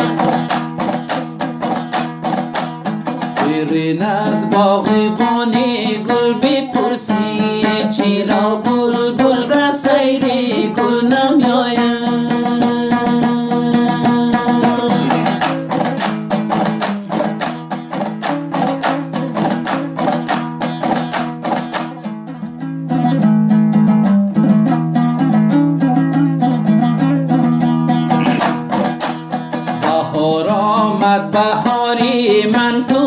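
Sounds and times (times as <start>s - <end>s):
plucked string instrument strummed: 0.0s - 33.0s.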